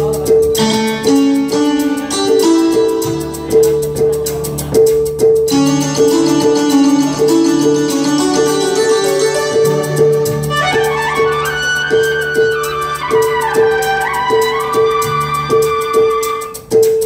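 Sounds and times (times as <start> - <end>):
keyboard accompaniment pulse: 0.0 - 16.7
keyboard piano-like melody: 0.0 - 16.8.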